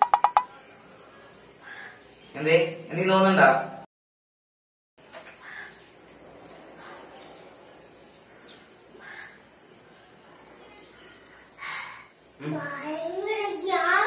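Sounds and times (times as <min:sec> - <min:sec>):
faint distant sounds: 0:00.0 - 0:03.7, 0:05.0 - 0:14.0
faint background ambience: 0:00.4 - 0:03.8, 0:05.0 - 0:14.0.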